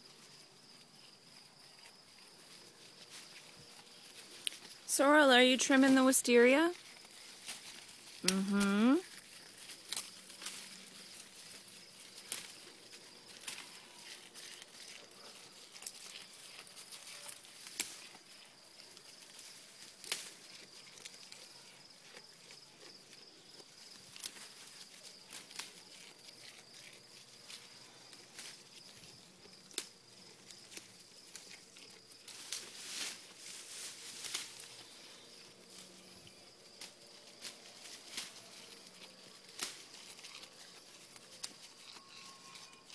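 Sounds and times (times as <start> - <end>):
goat tearing and chewing leaves: 0.0 - 42.9.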